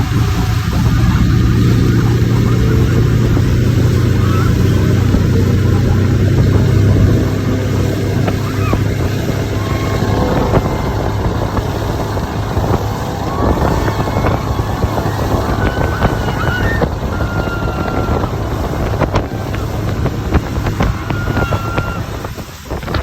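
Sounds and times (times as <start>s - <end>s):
motorboat engine running: 0.0s - 23.0s
water rushing: 0.0s - 23.0s
wind buffeting microphone: 0.0s - 23.0s.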